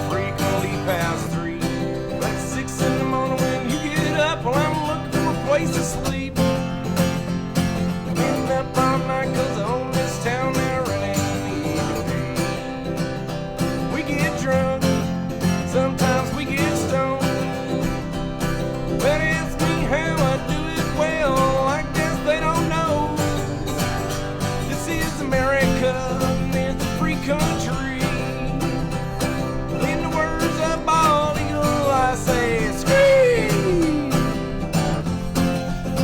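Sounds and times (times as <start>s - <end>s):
acoustic guitar country song: 0.0s - 36.0s.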